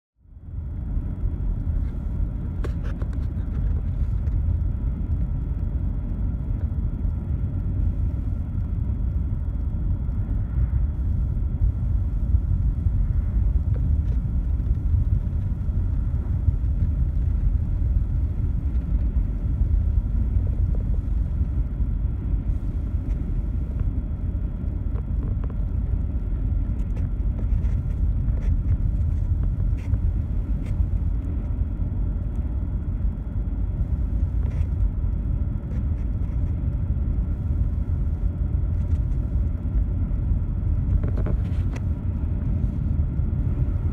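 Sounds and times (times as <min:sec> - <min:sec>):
car road rumble inside cabin: 0:00.2 - 0:43.9.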